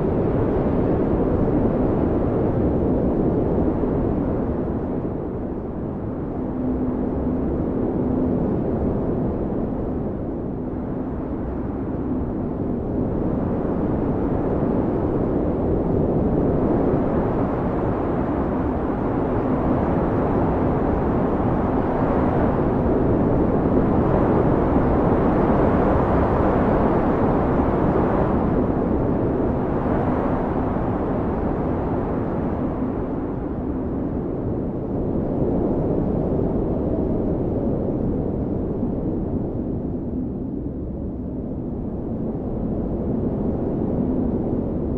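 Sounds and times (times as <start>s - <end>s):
blizzard wind blowing hard: 0.0s - 44.9s.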